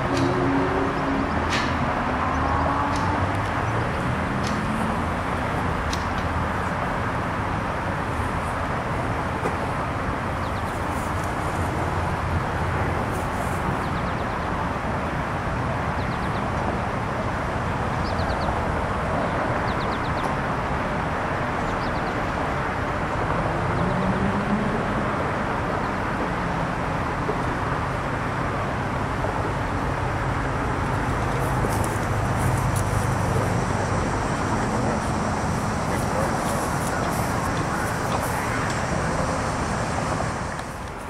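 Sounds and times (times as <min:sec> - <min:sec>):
distant traffic and machinery: 0:00.0 - 0:41.0.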